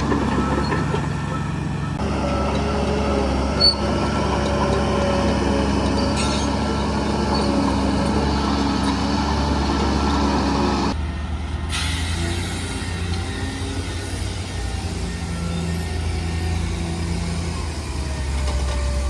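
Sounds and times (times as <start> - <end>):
diesel machinery engine running: 0.0 - 19.0.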